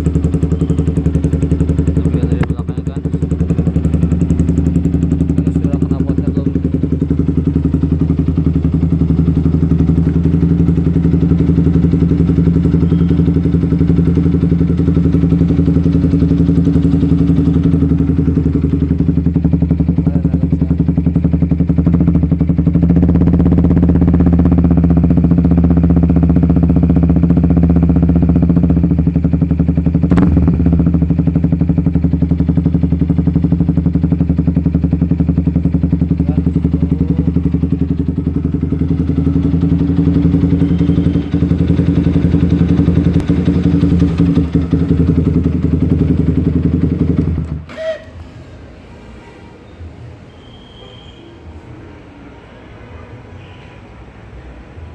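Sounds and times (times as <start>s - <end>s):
motorcycle engine idling: 0.0s - 51.1s.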